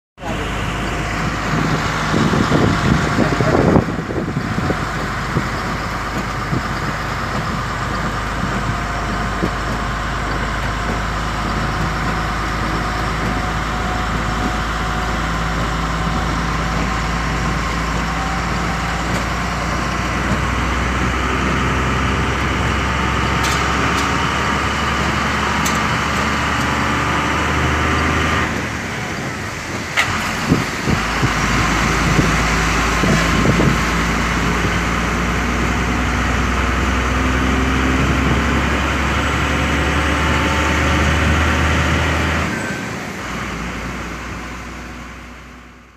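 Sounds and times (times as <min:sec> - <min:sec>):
road noise: 0:00.2 - 0:45.9
truck diesel engine running: 0:00.2 - 0:45.9.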